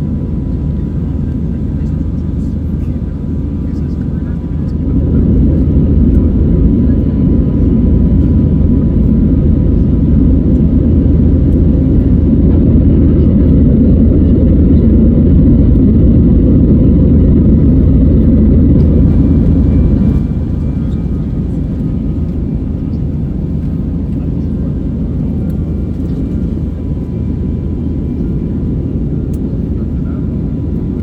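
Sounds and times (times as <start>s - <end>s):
jet engines and airflow in cabin: 0.0s - 31.0s.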